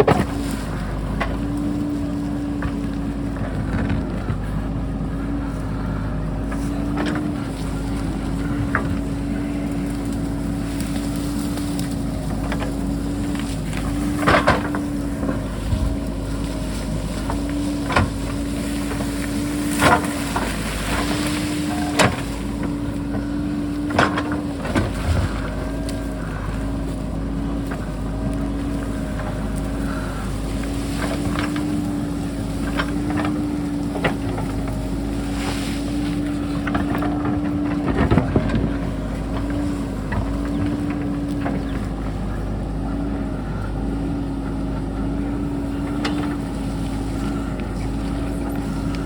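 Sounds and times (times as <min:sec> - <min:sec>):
diesel engine running under load: 0:00.0 - 0:49.0.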